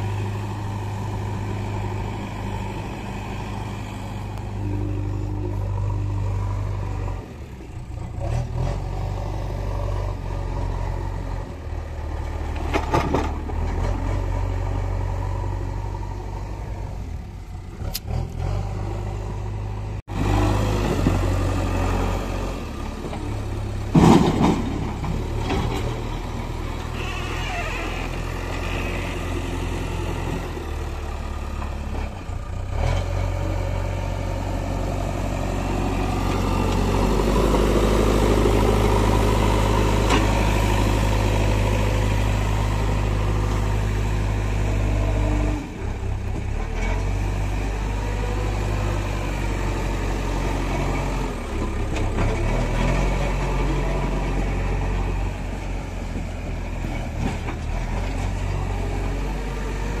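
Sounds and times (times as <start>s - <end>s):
backhoe loader diesel engine: 0.0s - 60.0s.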